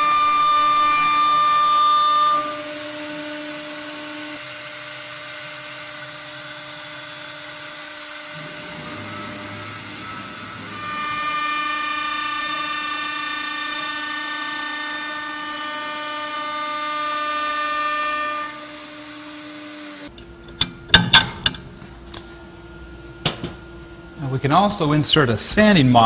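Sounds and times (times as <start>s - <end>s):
machine spindle whine: 0.0s - 26.0s.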